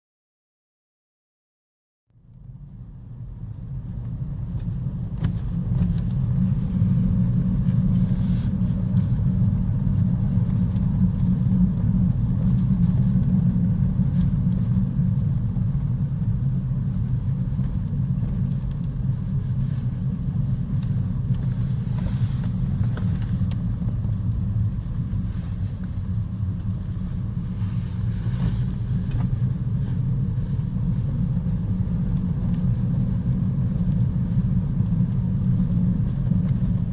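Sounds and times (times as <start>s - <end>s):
car cabin driving rumble: 2.2s - 36.9s.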